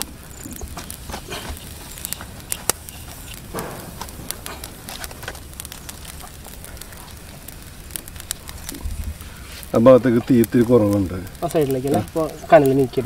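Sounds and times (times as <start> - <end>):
sharp pops: 0.0 - 12.8
charcoal fire crackling: 0.0 - 13.0.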